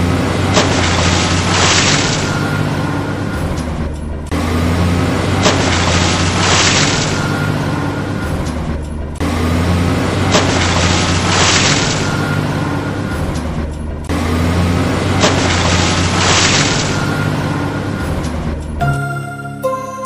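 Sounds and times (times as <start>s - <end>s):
vehicle engine hum with hissing: 0.0s - 18.8s.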